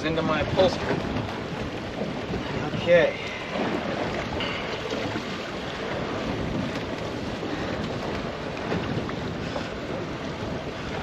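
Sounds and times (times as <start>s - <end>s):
choppy sea against hull: 0.0s - 11.0s
wind buffeting microphone: 0.0s - 11.0s.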